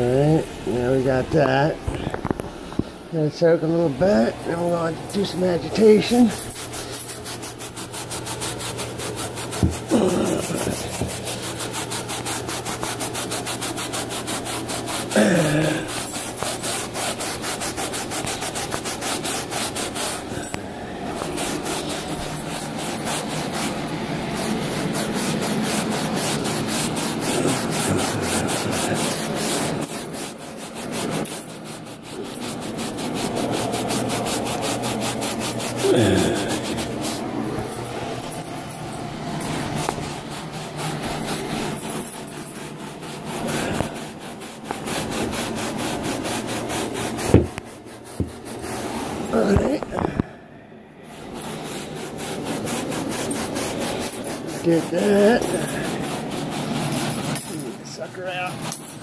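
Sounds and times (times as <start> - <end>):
brush scrubbing carpet: 0.0 - 59.0.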